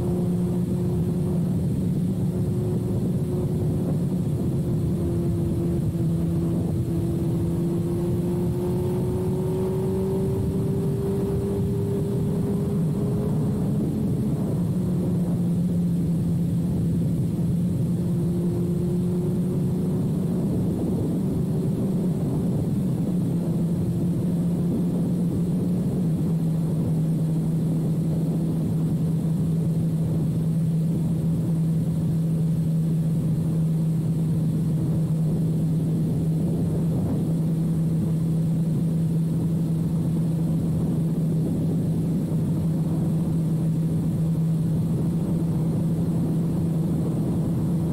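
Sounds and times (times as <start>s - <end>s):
motorcycle engine cruising: 0.0s - 47.9s.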